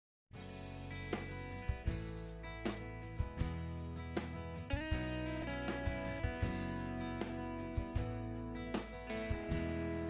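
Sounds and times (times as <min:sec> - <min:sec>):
instrumental music with steady beat: 0:00.4 - 0:10.0.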